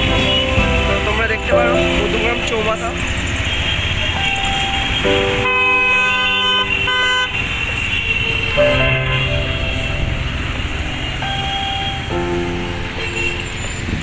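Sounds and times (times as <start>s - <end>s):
road and engine noise: 0.0s - 14.0s
vehicle horn honking: 0.0s - 14.0s.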